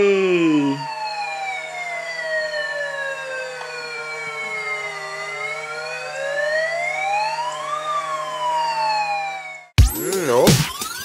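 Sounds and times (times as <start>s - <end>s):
toy siren wail: 0.0s - 11.0s.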